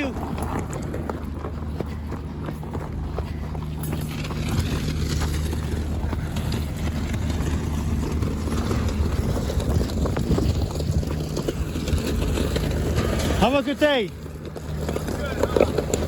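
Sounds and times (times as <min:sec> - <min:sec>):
vehicle engine low hum: 0:00.0 - 0:16.0.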